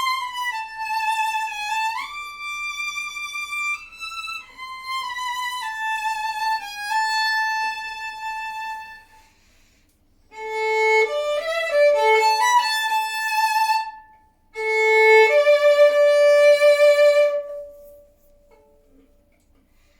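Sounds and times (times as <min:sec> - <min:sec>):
solo violin played with bow: 0:00.0 - 0:09.4, 0:10.3 - 0:18.3.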